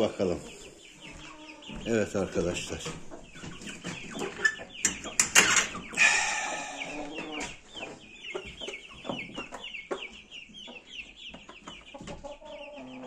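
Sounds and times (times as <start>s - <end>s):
young roosters chirping: 0.0s - 13.0s.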